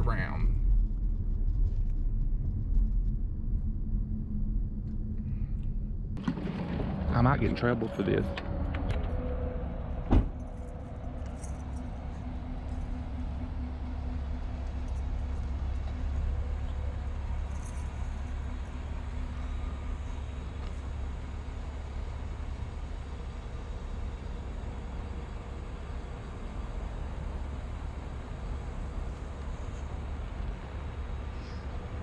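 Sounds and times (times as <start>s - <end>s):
car engine and road rumble: 0.0s - 32.0s
faint hum: 0.0s - 32.0s.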